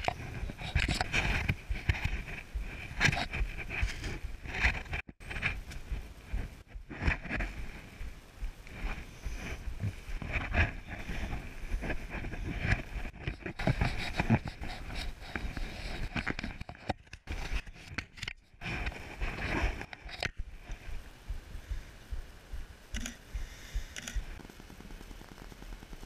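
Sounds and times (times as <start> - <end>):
microphone handling rumble: 0.0 - 26.0.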